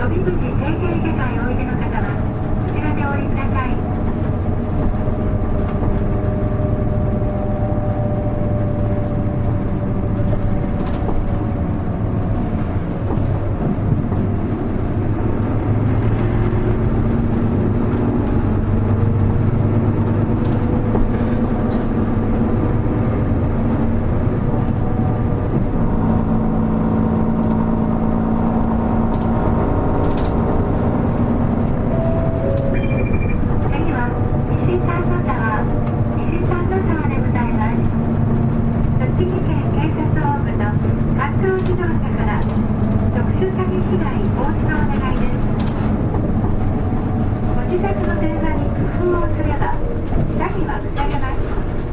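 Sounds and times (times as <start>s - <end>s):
bus diesel engine and drivetrain: 0.0s - 51.9s
road noise: 0.0s - 51.9s.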